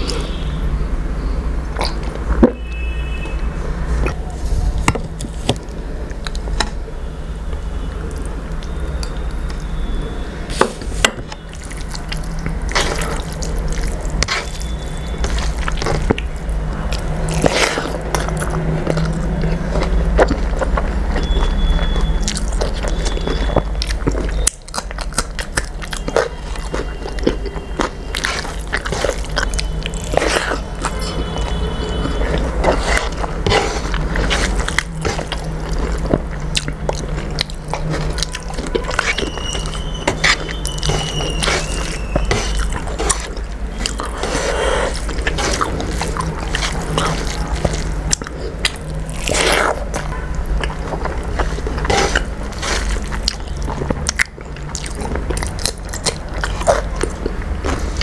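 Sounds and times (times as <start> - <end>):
person chewing wetly: 0.0 - 0.4, 1.6 - 6.9, 7.5 - 58.0
fingers mixing rice and curry: 1.2 - 58.0.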